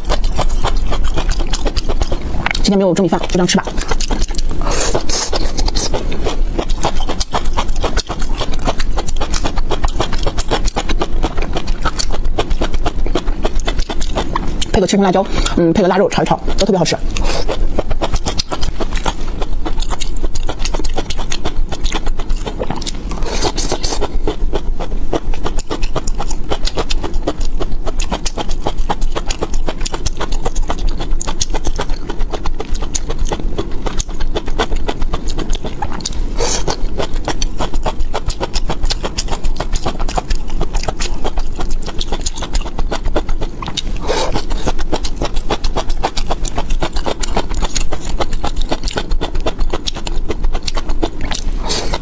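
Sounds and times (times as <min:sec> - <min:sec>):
chewing with wet mouth clicks: 0:00.0 - 0:52.0.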